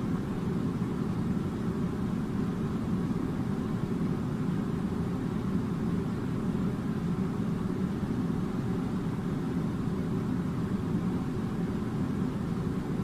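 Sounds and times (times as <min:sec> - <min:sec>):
air conditioner blowing: 0:00.0 - 0:13.0.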